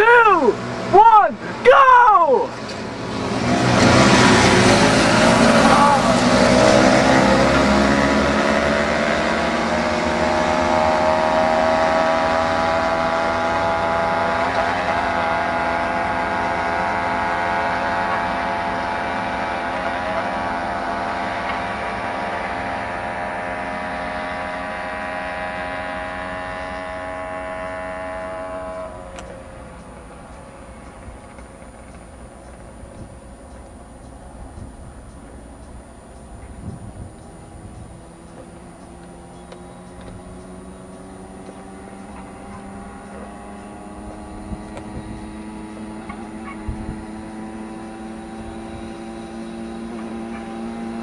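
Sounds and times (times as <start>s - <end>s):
moped engine at full throttle: 0.0s - 51.0s.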